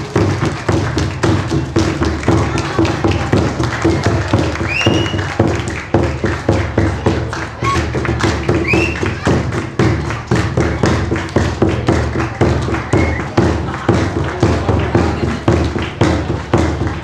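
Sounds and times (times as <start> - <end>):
large drum beating: 0.0 - 17.0.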